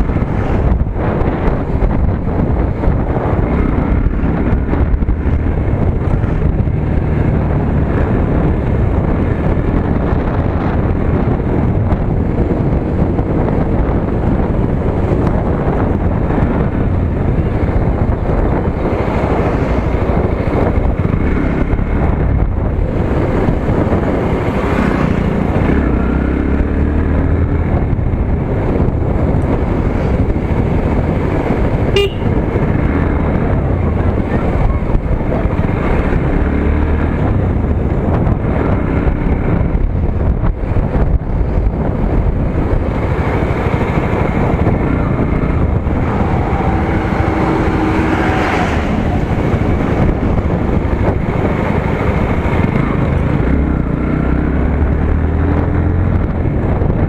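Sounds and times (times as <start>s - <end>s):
motorcycle engine running: 0.0s - 57.0s
wind rushing on microphone: 0.0s - 57.0s.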